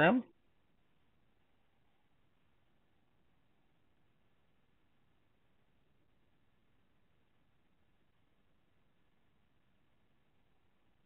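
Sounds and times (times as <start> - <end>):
faint recording hiss: 0.0 - 11.0.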